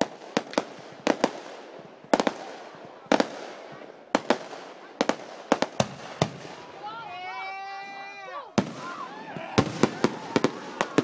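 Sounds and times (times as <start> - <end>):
fireworks bangs: 0.0 - 7.4, 8.5 - 11.0.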